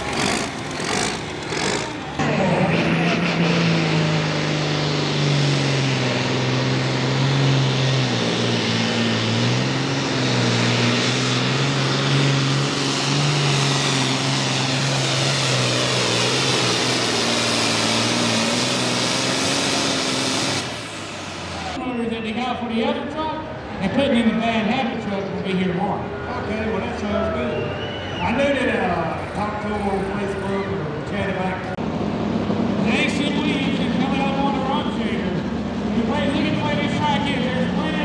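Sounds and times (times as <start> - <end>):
tractor diesel engine at full throttle: 0.0 - 21.8, 28.8 - 38.0.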